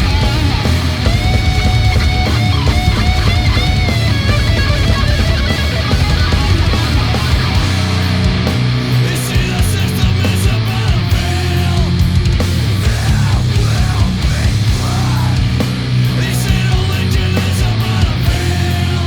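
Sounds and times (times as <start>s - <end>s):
heavy metal band playing: 0.0s - 19.0s.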